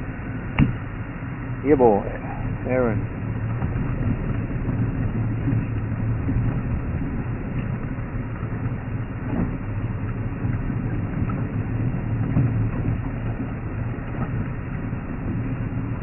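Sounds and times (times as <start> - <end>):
vehicle engine humming: 0.0 - 16.0
vehicle rattling on dirt track: 1.6 - 16.0.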